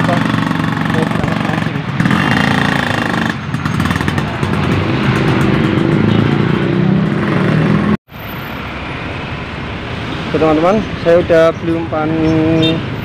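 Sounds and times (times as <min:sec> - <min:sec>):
motorcycle and truck engines: 0:00.0 - 0:13.0.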